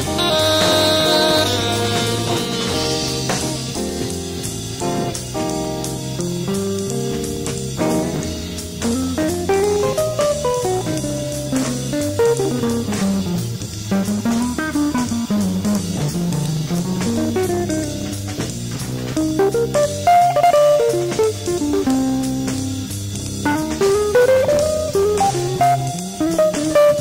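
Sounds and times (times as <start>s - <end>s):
bass guitar: 0.0s - 27.0s
drum kit: 0.0s - 27.0s
guitar melodic runs: 0.0s - 27.0s.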